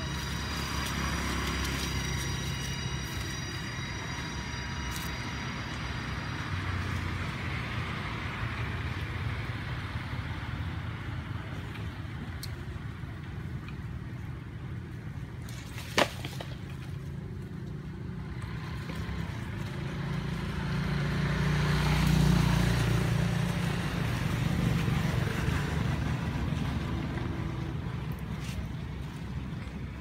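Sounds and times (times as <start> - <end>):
vehicle engine rumble: 0.0 - 30.0.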